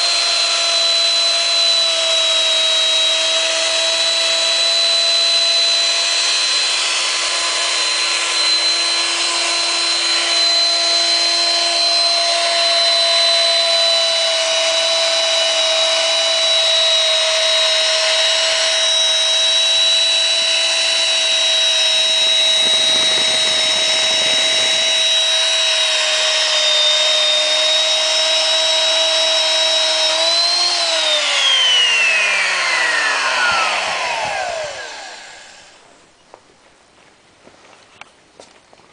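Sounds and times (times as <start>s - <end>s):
hole saw cutting metal pipe: 0.0s - 35.9s
electric motor whining: 0.0s - 36.0s.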